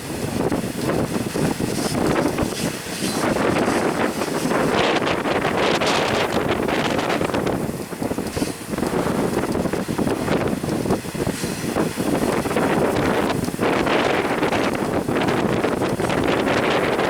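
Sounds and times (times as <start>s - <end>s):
freight train rumbling past: 0.0s - 17.0s
wind buffeting microphone: 0.0s - 17.0s.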